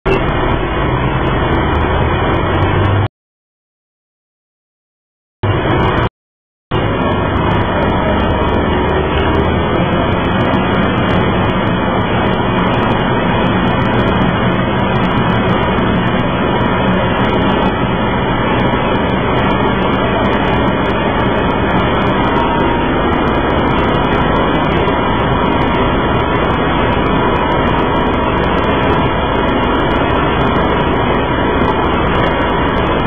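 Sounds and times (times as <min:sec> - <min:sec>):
bus engine idling: 0:00.0 - 0:03.1, 0:05.4 - 0:06.1, 0:06.7 - 0:33.0.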